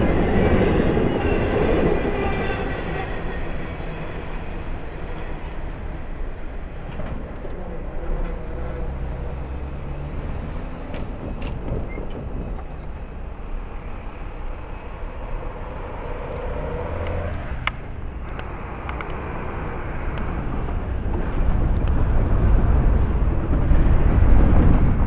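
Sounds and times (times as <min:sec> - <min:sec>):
freight train rumbling on track: 0:00.0 - 0:25.0.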